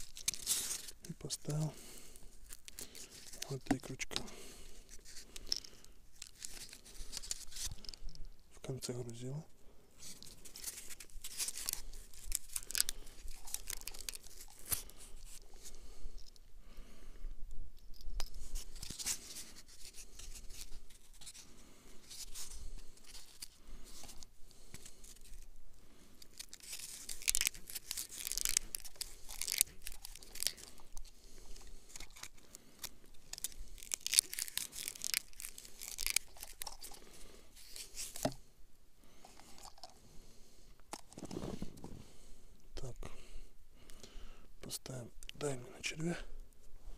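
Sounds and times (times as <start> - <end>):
rustling and scraping of handled gear: 0.0 - 16.5, 17.7 - 38.5, 39.1 - 42.4.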